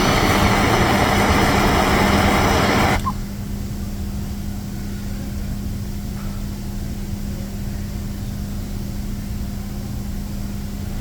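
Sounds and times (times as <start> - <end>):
machine hum with low rumble: 0.0 - 11.0.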